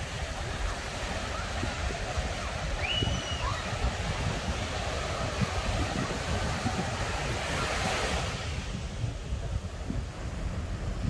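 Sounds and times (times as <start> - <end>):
ocean surf washing on beach: 0.0 - 11.0
wind buffeting microphone: 0.0 - 11.0.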